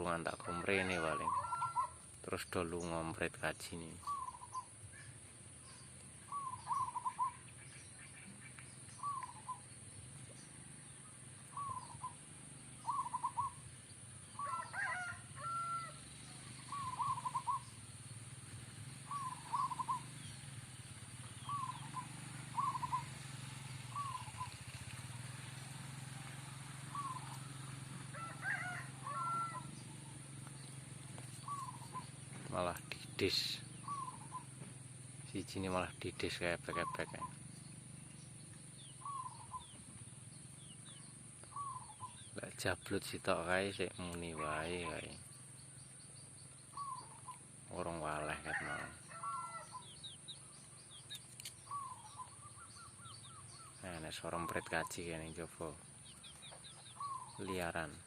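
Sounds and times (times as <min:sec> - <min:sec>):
dove cooing: 0:00.0 - 0:02.1, 0:04.0 - 0:07.6, 0:08.3 - 0:09.9, 0:11.4 - 0:20.6, 0:21.2 - 0:34.8, 0:35.8 - 0:37.4, 0:38.8 - 0:42.7, 0:43.8 - 0:45.2, 0:46.7 - 0:58.0
higher bird call: 0:00.0 - 0:02.3, 0:03.7 - 0:10.5, 0:11.4 - 0:18.2, 0:18.9 - 0:37.7, 0:38.8 - 0:40.0, 0:40.6 - 0:42.5, 0:43.3 - 0:45.3, 0:46.4 - 0:58.0.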